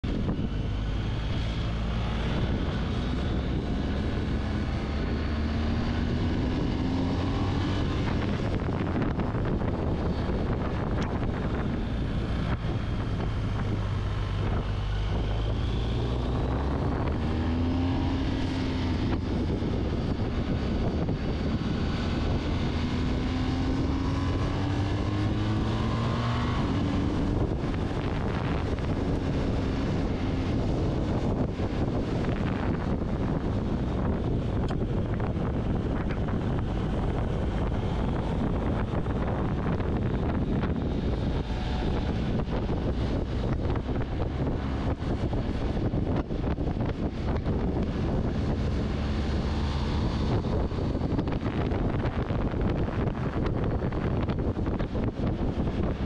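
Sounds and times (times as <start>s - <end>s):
motorcycle engine revving through gears: 0.0s - 56.0s
wind rushing over microphone: 0.0s - 56.0s.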